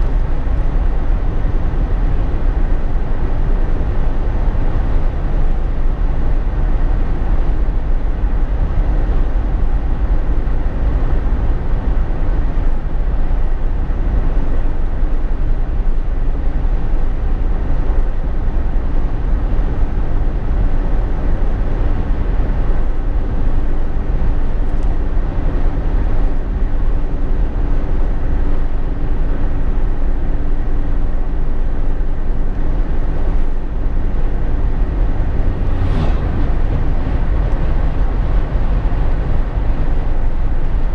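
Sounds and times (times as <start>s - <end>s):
deep road rumble: 0.0s - 40.9s
faint engine drone: 0.0s - 40.9s.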